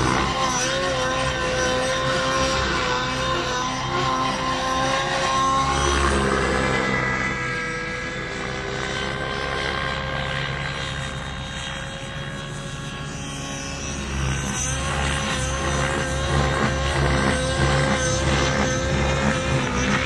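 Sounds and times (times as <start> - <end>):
model helicopter engine and rotors: 0.0 - 20.0.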